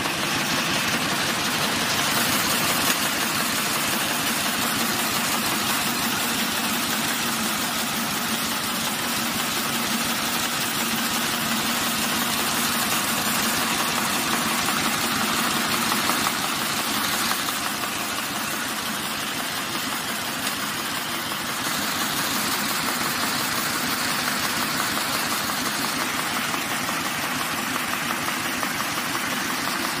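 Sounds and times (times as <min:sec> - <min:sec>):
envelope making machine running: 0:00.0 - 0:30.0.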